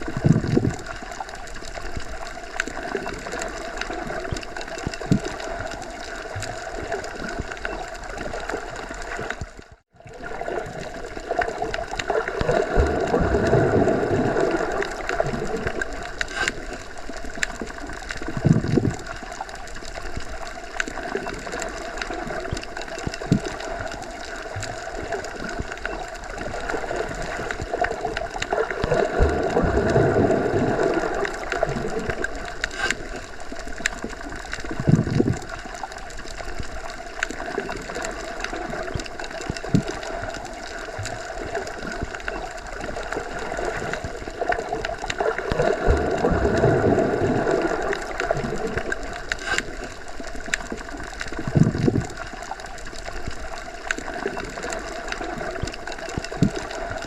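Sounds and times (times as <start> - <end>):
low water surges: 0.0 - 57.0
underwater rushing water: 0.0 - 57.0.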